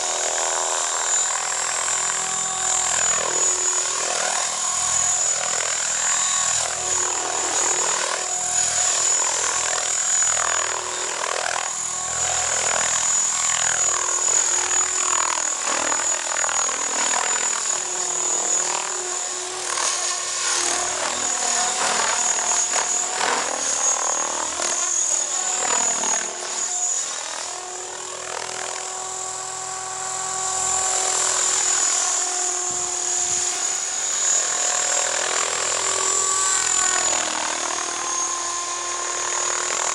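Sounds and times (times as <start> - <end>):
rc helicopter motor and rotor whine: 0.0 - 39.9
steady high-pitched whine: 0.0 - 39.9.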